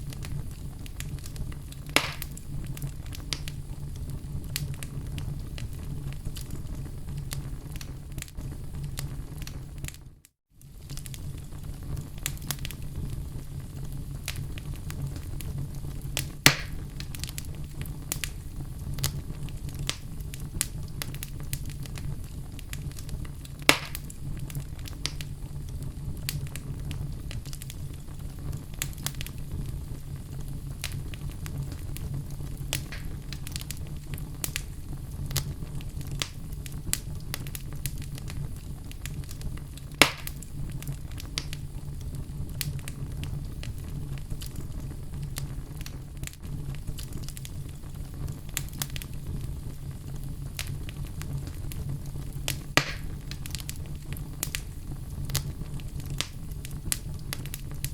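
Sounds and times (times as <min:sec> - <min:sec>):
loud fire pops: 0:00.0 - 0:57.9
wood fire crackling: 0:00.0 - 0:57.9.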